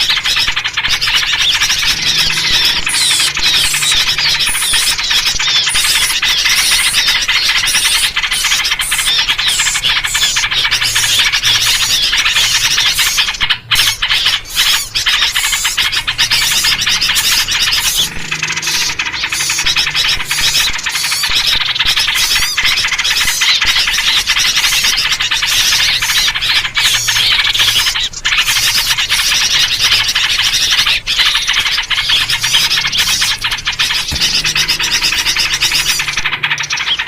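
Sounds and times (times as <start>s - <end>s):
flock of small birds chattering: 0.0s - 37.0s.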